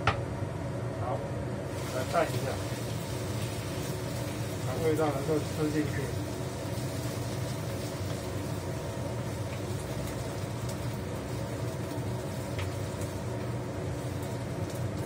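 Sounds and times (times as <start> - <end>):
low kitchen hum and hiss: 0.0 - 15.0.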